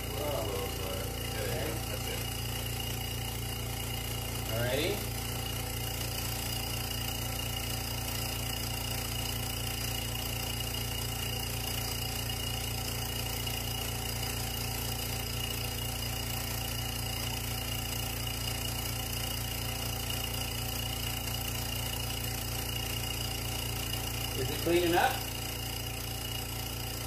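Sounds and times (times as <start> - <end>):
vacuum pump motor hum: 0.0 - 27.0.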